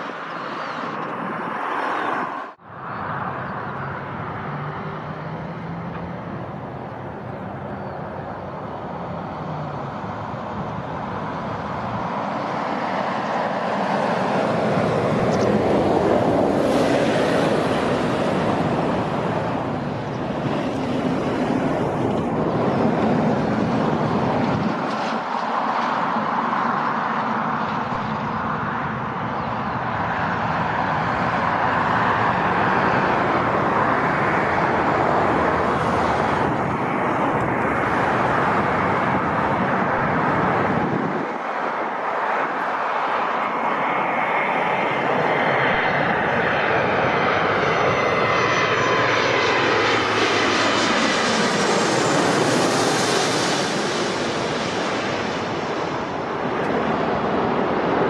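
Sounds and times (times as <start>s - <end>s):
jet engines rushing and rumbling: 0.0s - 58.0s.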